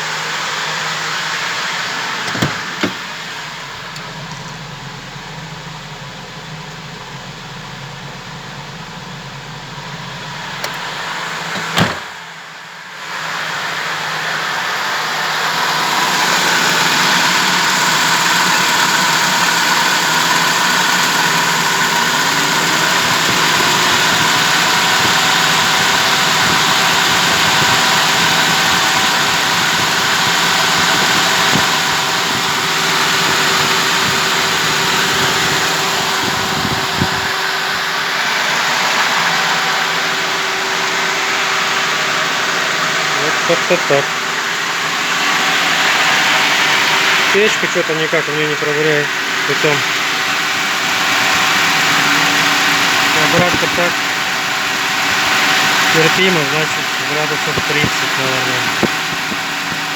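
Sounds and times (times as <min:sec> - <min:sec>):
van engine running: 0:00.0 - 0:59.9.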